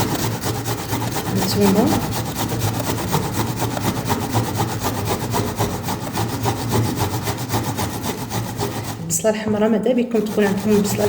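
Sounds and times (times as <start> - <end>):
onion grated on metal grater: 0.0 - 9.3, 10.1 - 11.0.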